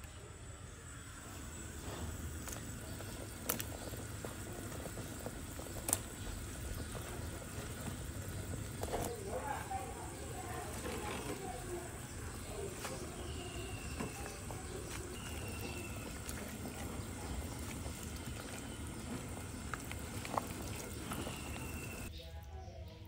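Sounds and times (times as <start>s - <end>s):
soup simmering in pot: 0.2s - 22.1s.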